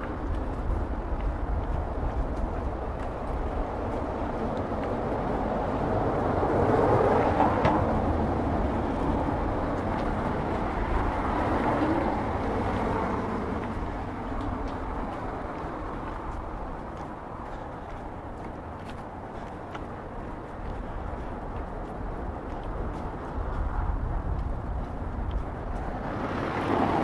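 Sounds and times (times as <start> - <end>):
motor vehicle passing: 0.0 - 27.0
street noise: 0.0 - 27.0.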